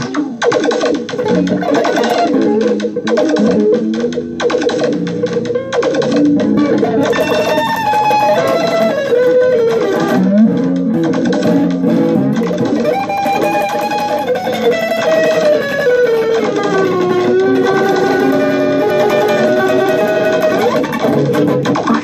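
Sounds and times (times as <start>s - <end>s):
slide guitar with loops: 0.0s - 22.0s.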